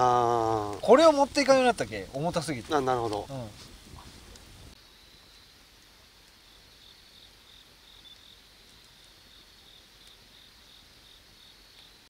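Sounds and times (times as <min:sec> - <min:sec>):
insect chirping trill: 0:00.0 - 0:12.0.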